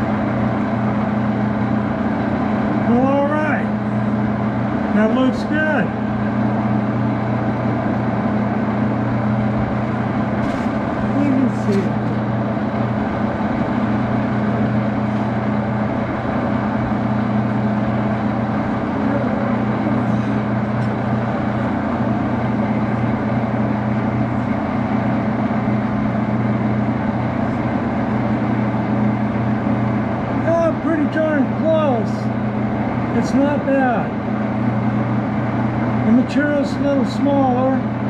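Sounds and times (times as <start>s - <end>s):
metal lathe running: 0.0s - 38.0s.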